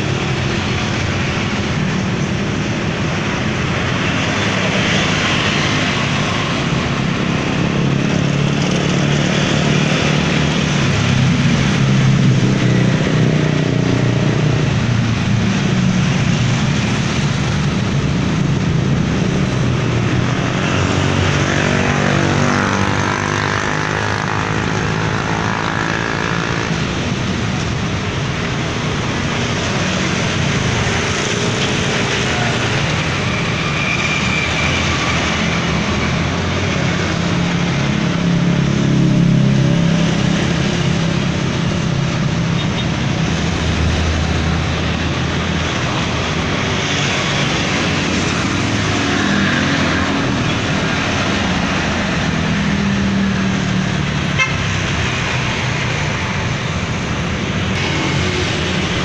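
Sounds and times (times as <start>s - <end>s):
motorbikes and cars passing: 0.0s - 59.0s.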